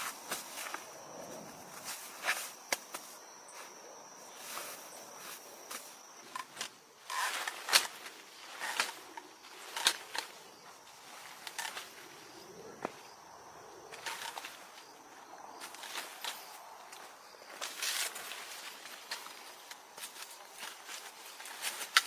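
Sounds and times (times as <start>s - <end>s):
rustles and clicks: 0.0s - 13.1s, 13.9s - 22.0s.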